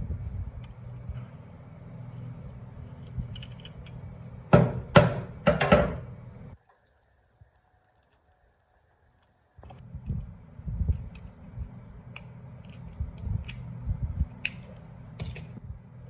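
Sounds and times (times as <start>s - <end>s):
steady low hum: 0.0s - 6.6s, 7.3s - 16.0s.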